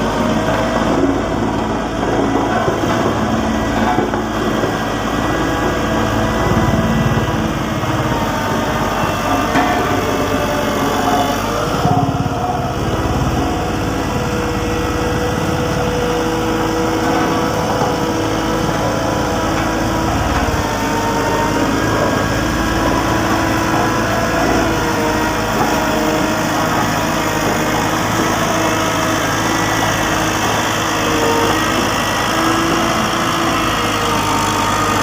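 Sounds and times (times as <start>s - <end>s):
road roller diesel engine running: 0.0s - 35.0s.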